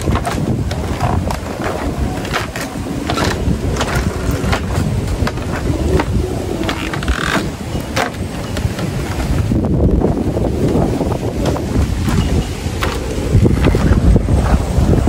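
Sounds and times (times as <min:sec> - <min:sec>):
footsteps on bamboo footbridge: 0:00.0 - 0:15.0
wind rumble on microphone: 0:00.0 - 0:15.0.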